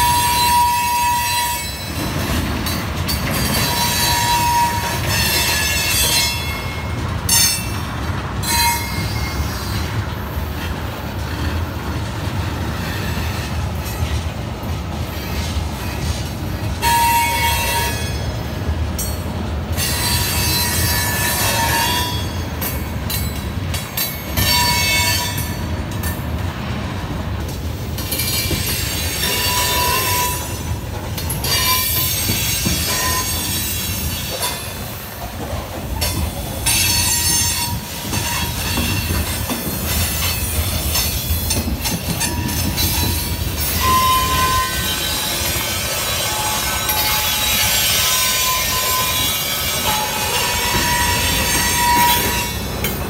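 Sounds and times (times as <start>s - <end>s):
train wheels squealing: 0.0s - 10.1s, 12.7s - 14.2s, 15.1s - 26.2s, 28.0s - 53.0s
train rumbling on rails: 0.0s - 53.0s.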